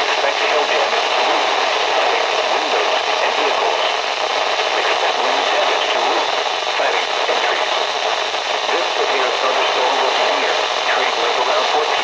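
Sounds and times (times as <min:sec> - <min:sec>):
faint voice: 0:00.0 - 0:08.0, 0:08.6 - 0:12.0
radio static hiss: 0:00.0 - 0:12.0.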